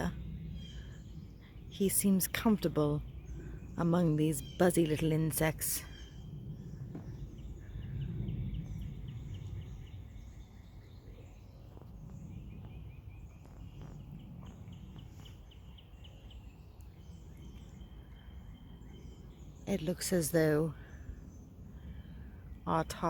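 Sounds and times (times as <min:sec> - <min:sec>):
low rumble: 0:00.0 - 0:22.7
bird chirping: 0:00.0 - 0:23.0.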